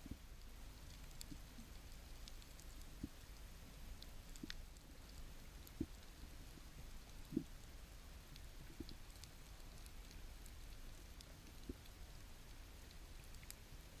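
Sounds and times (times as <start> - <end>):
underwater hiss and rumble: 0.0 - 14.0.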